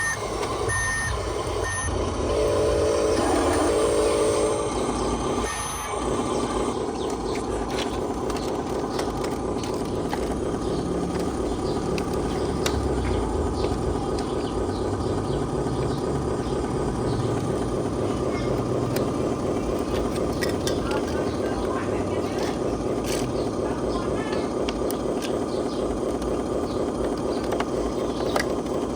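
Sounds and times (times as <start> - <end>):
model truck motors whirring: 0.0 - 28.9.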